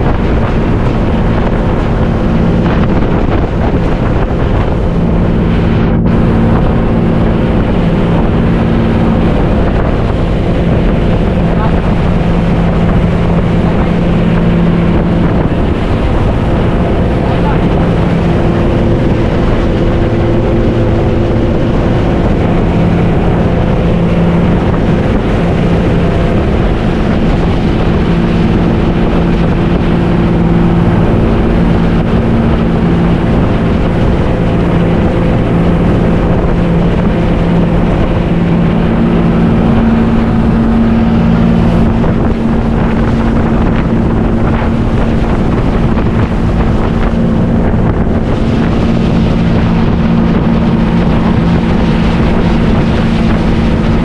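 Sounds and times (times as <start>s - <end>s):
motorboat engine running: 0.0s - 54.0s
wind buffeting microphone: 0.0s - 54.0s.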